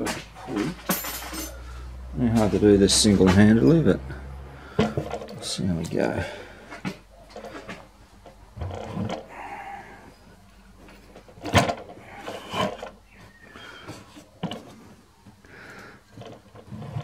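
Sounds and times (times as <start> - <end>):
drive belt scraping and clunking: 0.0 - 14.9, 15.6 - 17.0.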